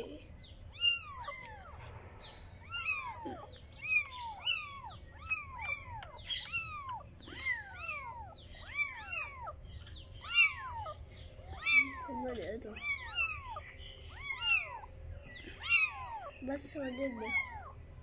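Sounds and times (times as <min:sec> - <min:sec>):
kitten mewing: 0:02.6 - 0:14.9, 0:15.5 - 0:17.8.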